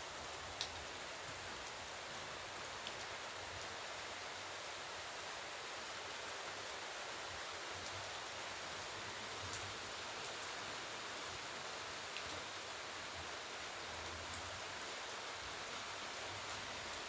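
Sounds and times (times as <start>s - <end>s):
steady rainfall hiss: 0.0s - 17.0s.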